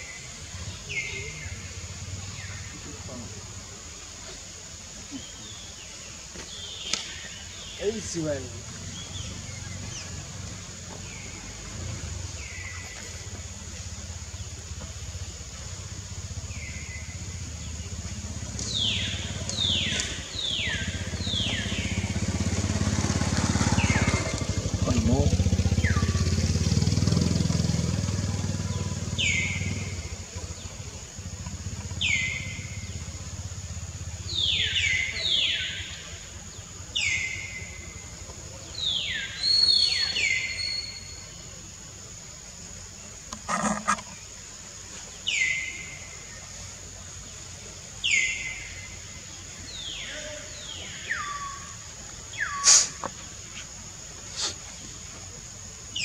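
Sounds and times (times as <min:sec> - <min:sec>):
birds calling: 0:00.0 - 0:56.0
insect whine: 0:00.0 - 0:56.0.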